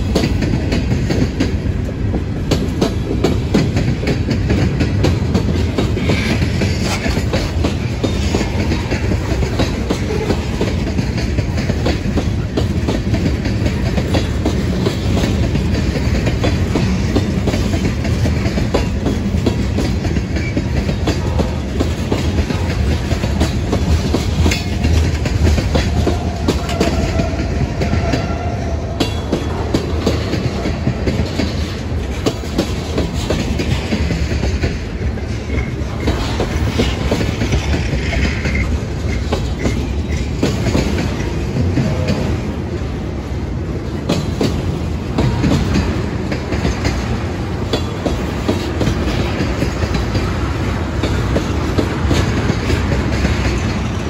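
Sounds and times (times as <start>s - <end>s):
freight train rolling past: 0.0s - 54.0s
wheels clattering over rails: 0.0s - 54.0s.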